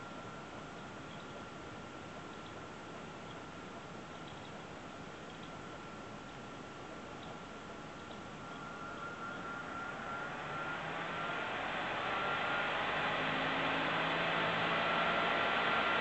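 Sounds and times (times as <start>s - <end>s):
cooling fan whirring with whine: 0.0s - 16.0s.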